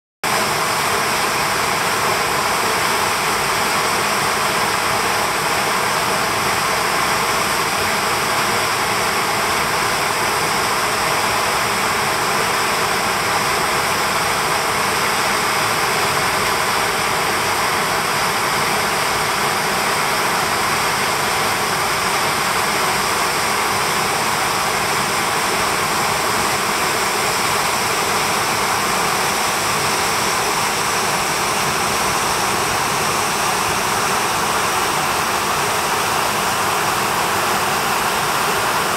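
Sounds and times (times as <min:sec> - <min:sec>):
waterfall crashing into pool: 0:00.2 - 0:38.9.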